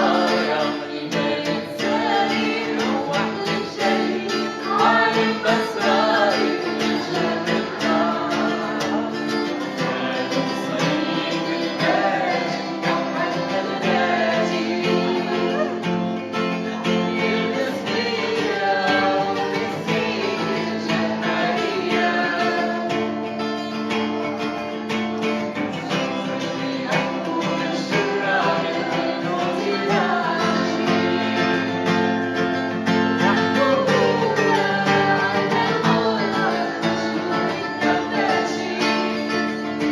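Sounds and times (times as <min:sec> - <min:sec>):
woman singing: 0:00.0 - 0:23.4, 0:25.5 - 0:31.8, 0:33.2 - 0:39.9
guitar accompaniment: 0:00.0 - 0:39.9.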